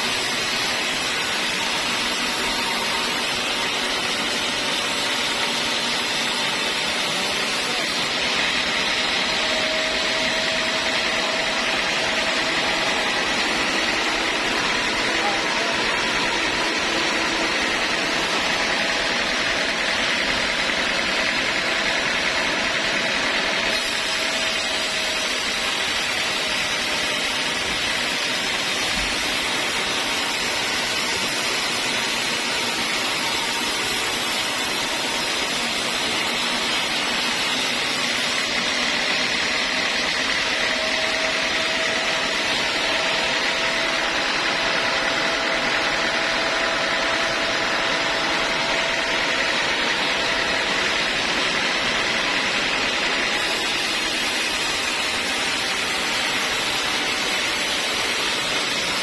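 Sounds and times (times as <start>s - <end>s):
circular saw whining: 0.0s - 59.0s.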